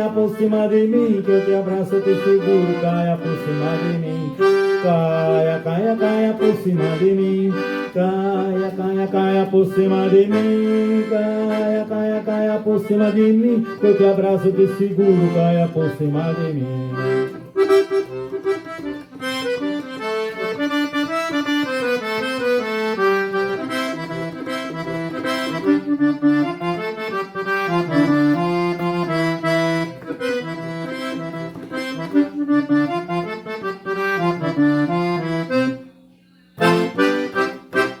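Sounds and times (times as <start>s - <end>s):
accordion melody: 0.0s - 38.0s.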